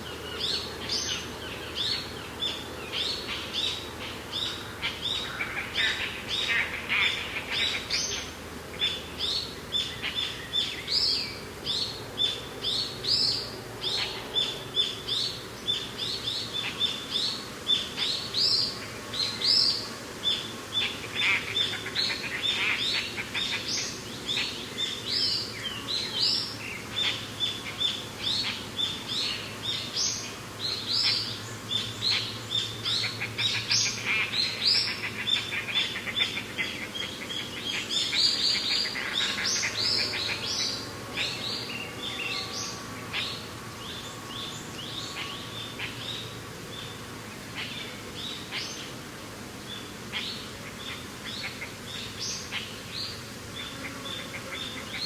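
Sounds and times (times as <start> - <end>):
chorus of birds chirping: 0.0 - 55.0.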